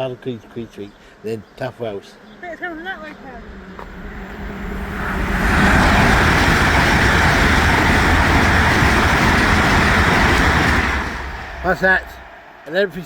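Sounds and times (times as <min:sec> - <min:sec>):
train passing at speed: 0:02.4 - 0:13.0.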